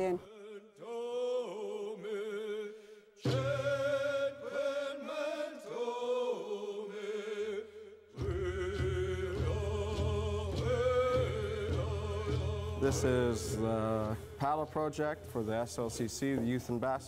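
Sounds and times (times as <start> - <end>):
person singing chant-like melody: 0.0 - 16.8.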